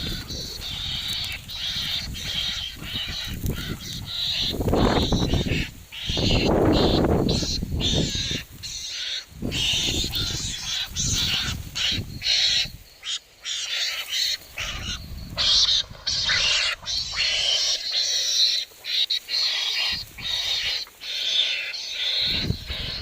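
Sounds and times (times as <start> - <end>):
harsh animal cries: 0.0 - 23.0.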